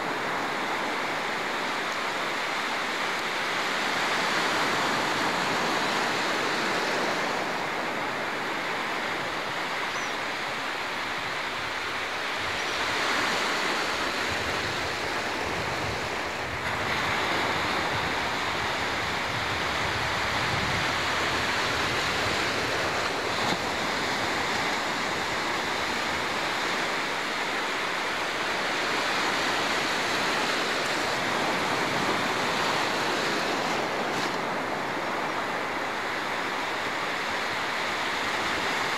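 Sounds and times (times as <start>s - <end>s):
surf breaking on beach: 0.0s - 38.9s.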